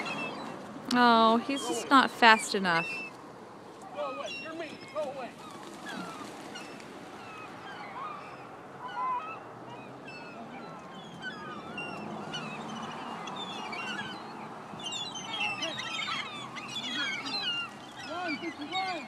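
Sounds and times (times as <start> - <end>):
seagulls squawking: 0.0 - 3.2, 3.8 - 19.0.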